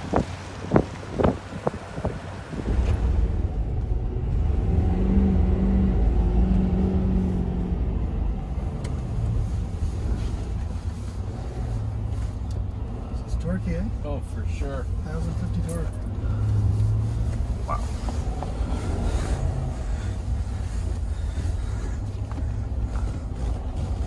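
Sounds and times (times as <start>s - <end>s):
diesel engine accelerating: 0.0s - 24.0s.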